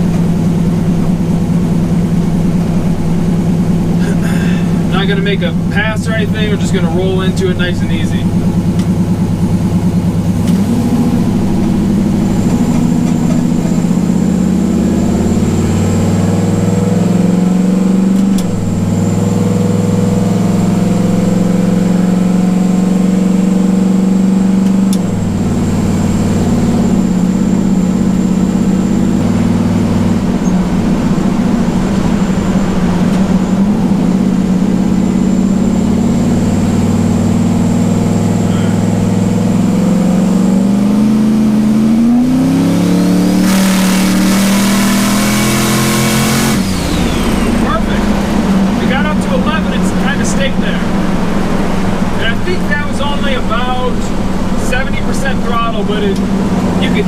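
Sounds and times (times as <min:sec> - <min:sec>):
pickup truck engine driving: 0:00.0 - 0:57.0.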